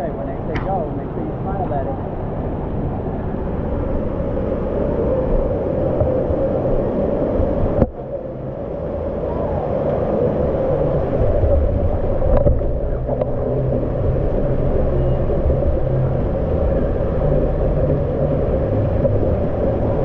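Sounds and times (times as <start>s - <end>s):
indoor water park din: 0.0s - 20.0s.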